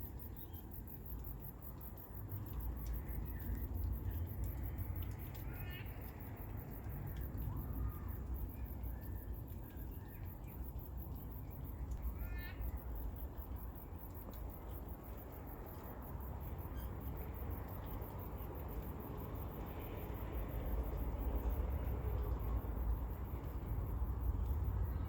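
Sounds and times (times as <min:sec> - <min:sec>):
low outdoor rumble: 0:00.2 - 0:25.0.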